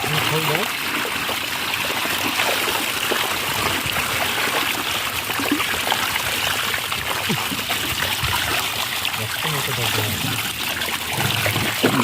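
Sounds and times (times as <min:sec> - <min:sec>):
waterfall splashing and gurgling: 0:00.0 - 0:12.0.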